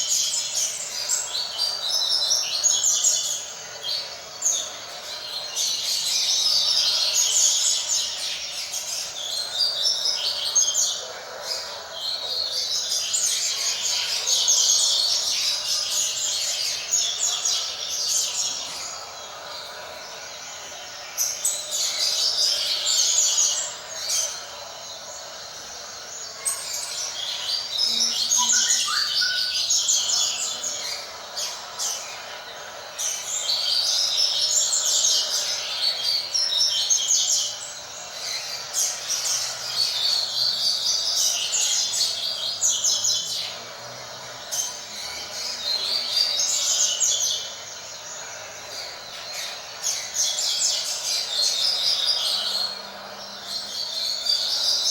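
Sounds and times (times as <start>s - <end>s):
seedeater bird singing: 0.0s - 54.9s.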